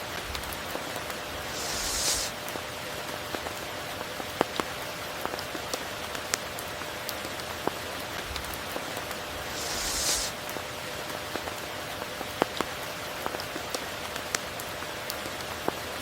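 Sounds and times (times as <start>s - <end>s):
steady rain hiss: 0.0s - 16.0s
sharp ticks of raindrops: 2.3s - 16.0s.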